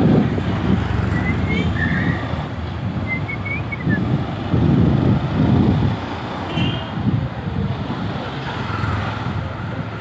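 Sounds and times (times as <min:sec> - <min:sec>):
vehicle rumble in traffic: 0:00.0 - 0:10.0.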